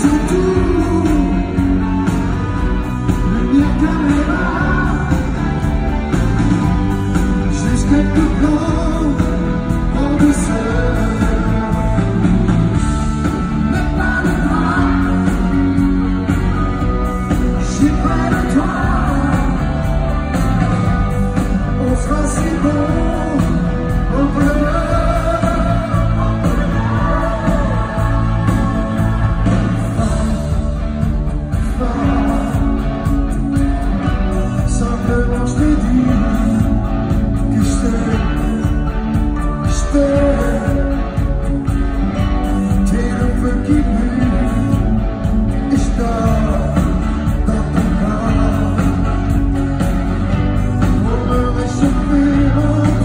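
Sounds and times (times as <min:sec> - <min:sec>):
man singing into microphone: 0:00.0 - 0:02.1, 0:03.1 - 0:05.5, 0:07.2 - 0:12.5, 0:13.3 - 0:16.0, 0:17.2 - 0:20.4, 0:21.1 - 0:30.8, 0:31.5 - 0:33.0, 0:34.4 - 0:41.2, 0:42.4 - 0:49.5, 0:50.8 - 0:53.0
amplified band playing: 0:00.0 - 0:53.0.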